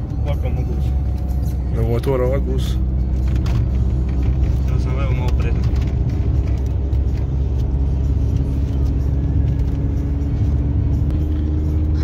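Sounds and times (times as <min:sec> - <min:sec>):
car engine drone inside cabin: 0:00.0 - 0:12.0
road and tyre rumble: 0:00.0 - 0:12.0.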